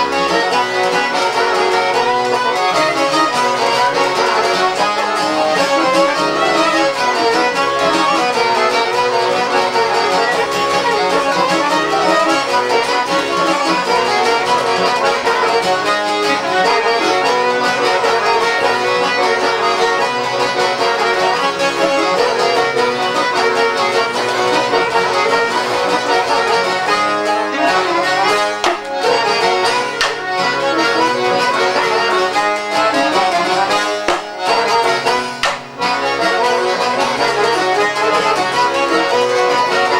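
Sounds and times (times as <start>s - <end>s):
accordion: 0.0s - 39.9s
violin: 0.0s - 39.9s.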